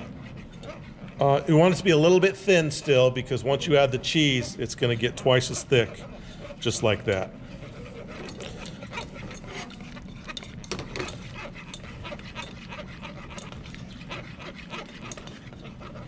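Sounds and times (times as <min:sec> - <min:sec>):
steady low hum: 0:00.0 - 0:16.0
whisk swishing in saucepan: 0:00.0 - 0:16.0.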